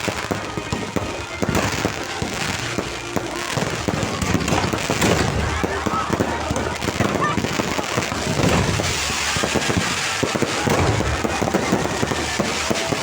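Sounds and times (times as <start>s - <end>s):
fireworks cracking: 0.0s - 13.0s.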